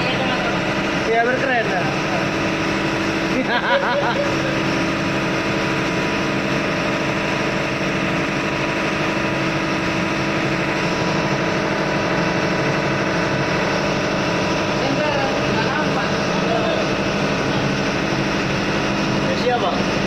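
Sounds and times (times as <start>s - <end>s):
engine room machinery drone: 0.0s - 20.0s.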